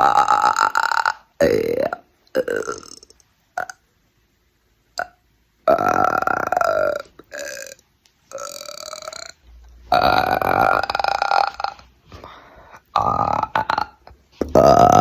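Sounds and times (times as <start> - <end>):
person burping: 0.0 - 3.8, 5.0 - 15.0.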